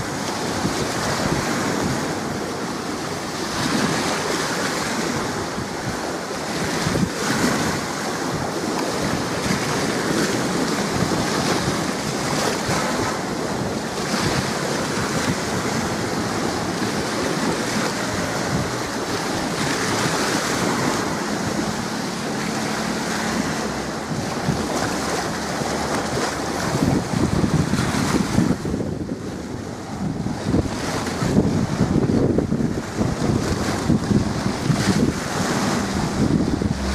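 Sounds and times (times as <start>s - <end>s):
small choppy waves: 0.0s - 36.9s
wind buffeting microphone: 0.0s - 36.9s.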